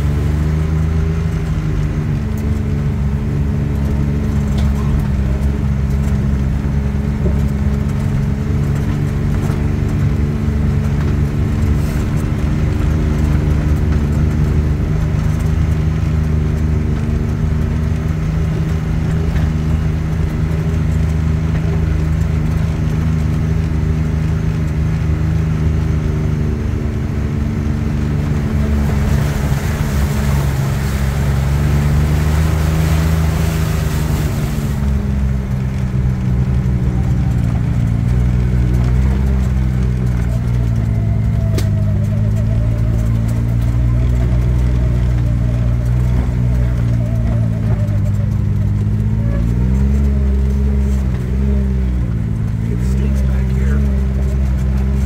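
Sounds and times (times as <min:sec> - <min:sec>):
off-road vehicle engine cruising: 0:00.0 - 0:55.0.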